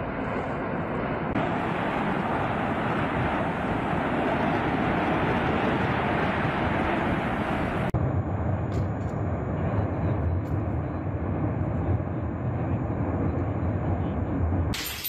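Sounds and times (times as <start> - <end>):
volcano rumbling: 0.0 - 14.7.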